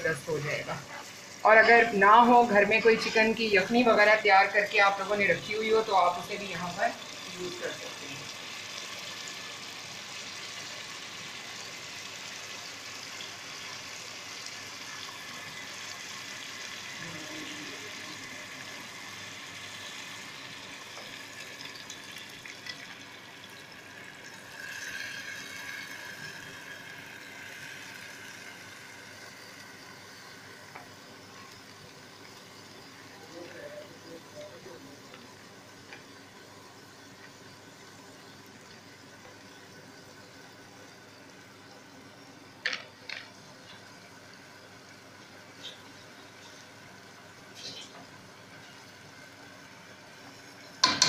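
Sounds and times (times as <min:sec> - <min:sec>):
masala sizzling in oil: 0:00.0 - 0:51.0.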